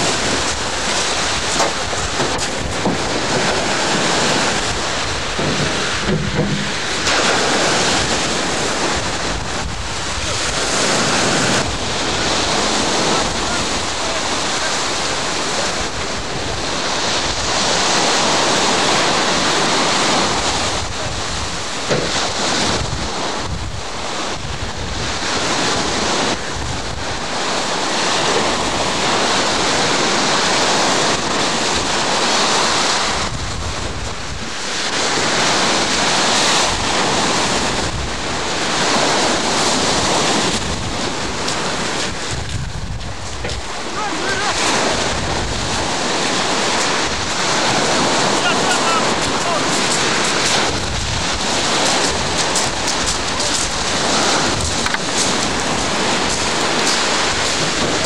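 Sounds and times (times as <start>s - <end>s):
surf breaking ashore: 0.0s - 58.0s
wind buffeting microphone: 0.0s - 58.0s.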